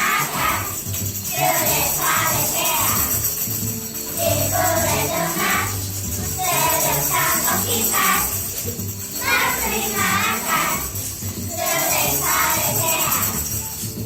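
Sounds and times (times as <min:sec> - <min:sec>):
children singing: 0:00.0 - 0:03.4, 0:04.0 - 0:13.9
backing music: 0:00.0 - 0:14.0
jingling percussion: 0:00.0 - 0:14.0.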